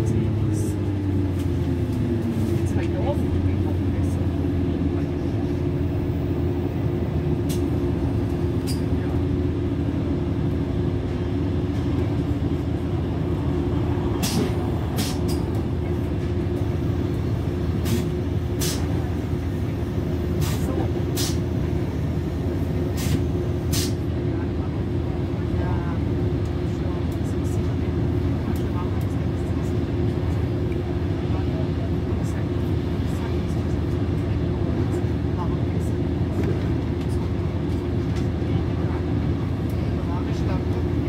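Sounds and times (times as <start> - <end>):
diesel train engine and wheels droning: 0.0 - 41.0.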